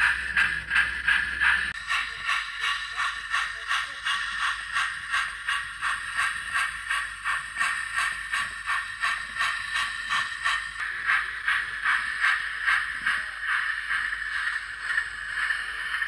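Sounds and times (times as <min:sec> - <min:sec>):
model steam locomotive chuffing: 0:00.0 - 0:16.0.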